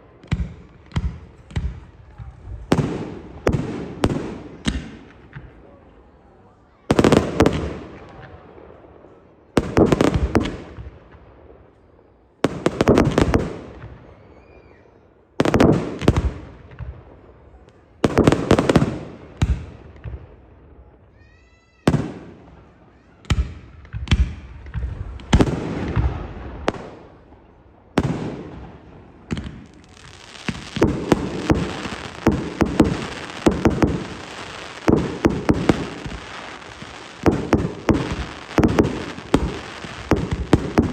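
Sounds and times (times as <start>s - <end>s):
fireworks bursting with bangs: 0.0s - 5.6s, 6.8s - 11.7s, 12.4s - 40.9s
rapid fireworks bangs and crackles: 0.0s - 6.2s, 6.8s - 11.8s, 12.4s - 40.9s.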